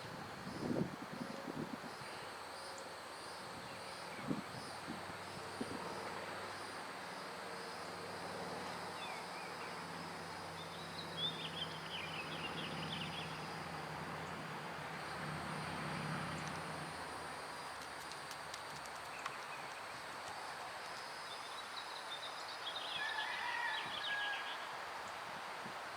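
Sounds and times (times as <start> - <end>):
insects buzzing: 0.0 - 23.7.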